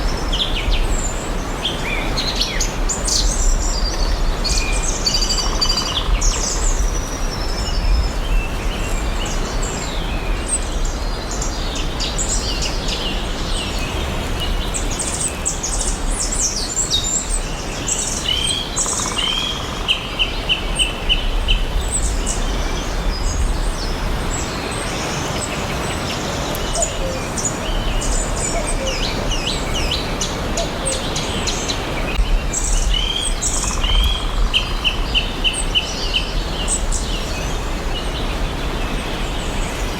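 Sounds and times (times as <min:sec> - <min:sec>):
forest birds chirping: 0:00.0 - 0:39.9
steady background hiss: 0:00.0 - 0:39.9.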